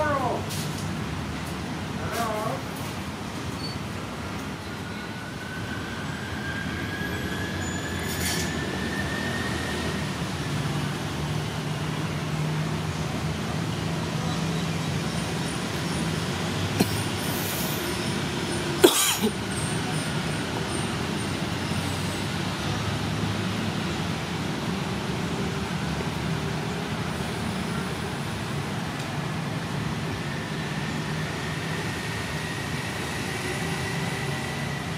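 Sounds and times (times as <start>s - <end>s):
traffic noise: 0.0s - 34.9s.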